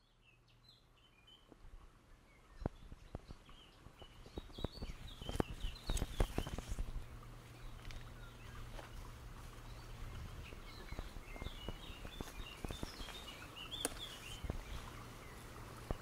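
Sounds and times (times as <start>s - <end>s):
faint outdoor background noise: 0.0s - 16.0s
small birds chirping: 0.0s - 16.0s.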